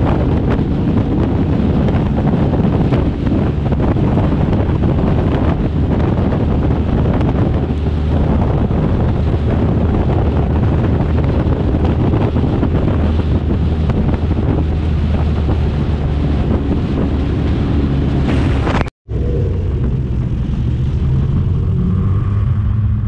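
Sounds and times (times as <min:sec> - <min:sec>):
motorcycle engine droning: 0:00.0 - 0:23.0
wind buffeting microphone: 0:00.0 - 0:23.0.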